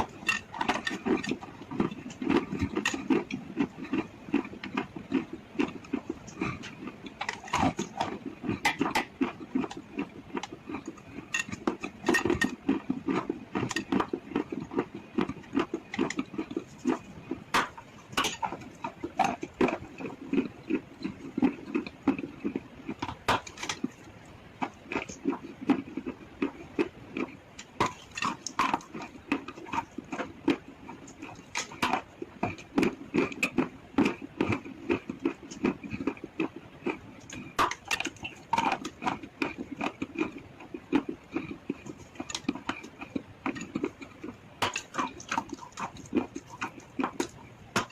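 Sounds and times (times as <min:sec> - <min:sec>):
rhythmic chewing: 0:00.0 - 0:47.9
sharp crunches of biting: 0:00.0 - 0:47.9.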